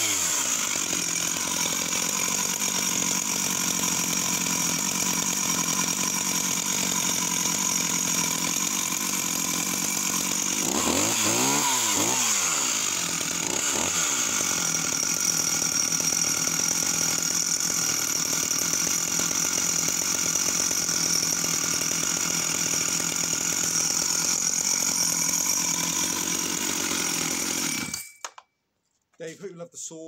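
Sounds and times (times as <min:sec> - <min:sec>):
chainsaw engine idling: 0:00.0 - 0:28.1.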